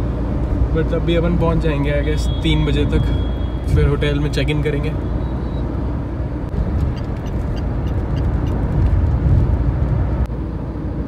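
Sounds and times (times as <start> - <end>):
car engine noise: 0.0 - 11.0
road and tyre rumble: 0.0 - 11.0.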